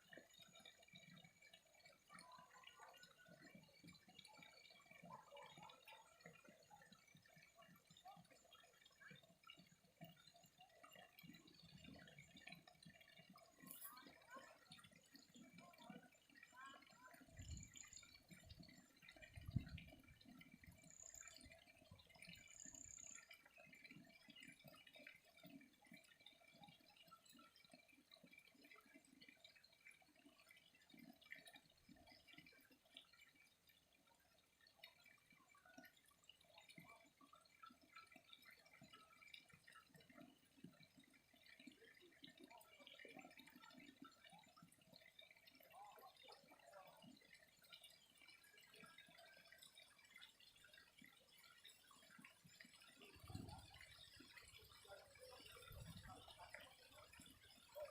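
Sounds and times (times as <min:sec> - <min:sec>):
water trickling and dripping: 0:00.0 - 0:57.9.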